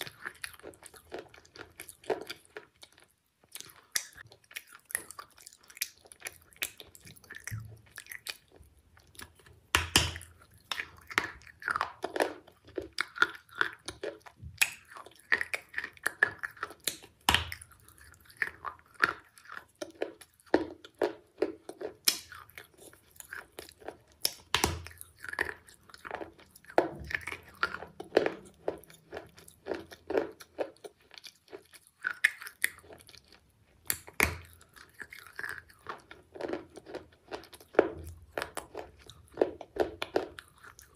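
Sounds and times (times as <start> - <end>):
person chewing: 0.0 - 40.9.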